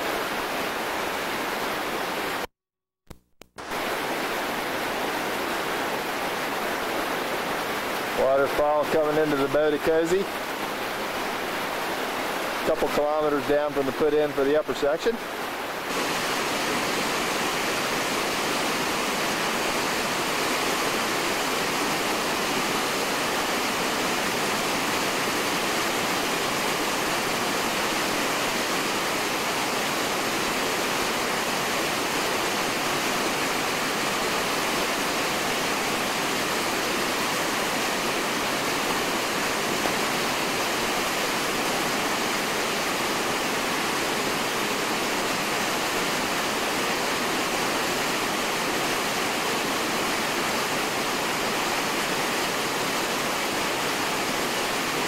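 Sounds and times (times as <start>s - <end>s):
whitewater rapids roaring: 3.6s - 55.0s.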